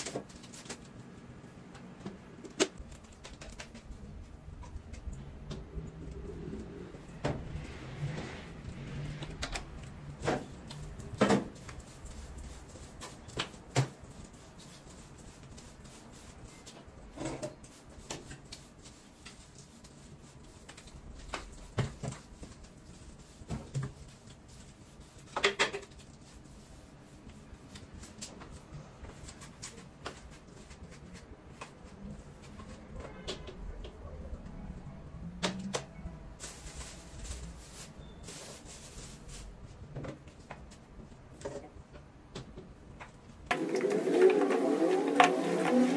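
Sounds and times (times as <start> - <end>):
broom sweeping tiled floor: 2.8 - 41.5, 43.0 - 45.9.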